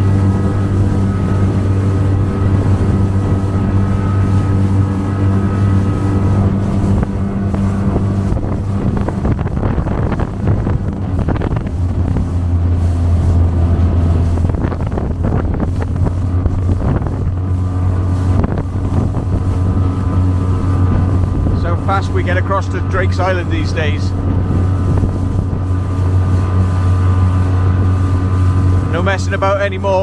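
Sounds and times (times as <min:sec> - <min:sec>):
hull splashing and slapping: 0:00.0 - 0:30.0
motorboat engine running hard: 0:00.0 - 0:30.0
water rushing against hull: 0:00.0 - 0:30.0
wind on microphone: 0:00.0 - 0:30.0.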